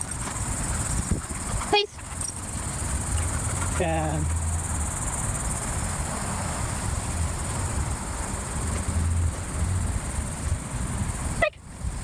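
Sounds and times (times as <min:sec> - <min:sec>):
insects chirping chorus: 0:00.0 - 0:12.0.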